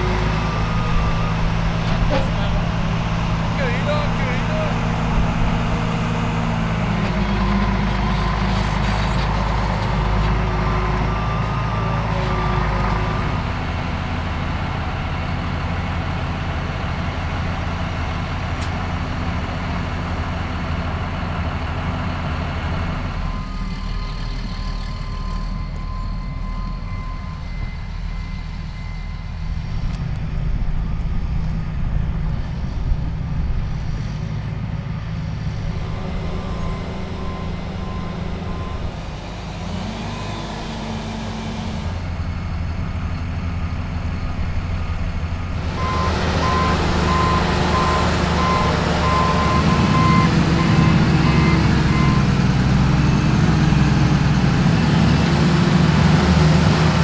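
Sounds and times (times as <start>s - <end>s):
reversing beeper: 0.0s - 15.6s, 22.1s - 55.3s
bulldozer diesel engine running: 0.0s - 57.0s.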